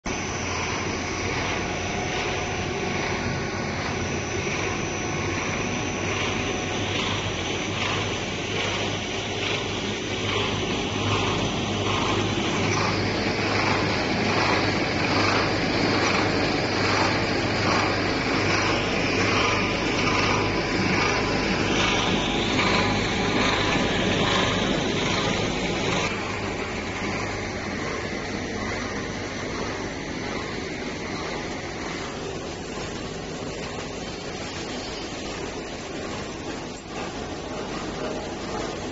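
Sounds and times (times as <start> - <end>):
machinery humming: 0.1 - 38.9.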